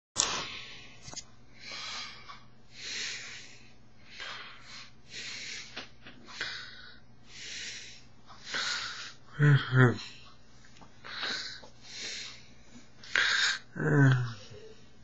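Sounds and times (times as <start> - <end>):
person breathing through nose: 0.2 - 9.2, 11.0 - 14.4.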